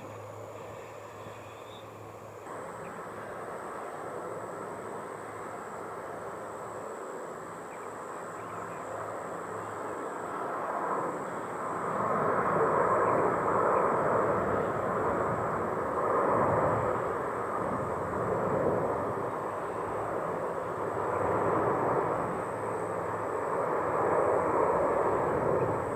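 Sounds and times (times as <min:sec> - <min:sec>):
jet airliner engines rushing: 0:00.0 - 0:25.9.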